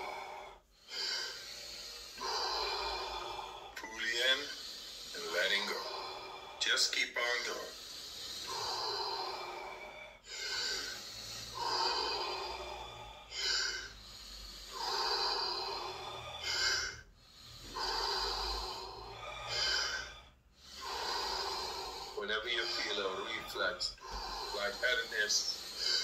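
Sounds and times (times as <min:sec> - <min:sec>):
man breathing deeply through mouth: 0:00.0 - 0:26.0.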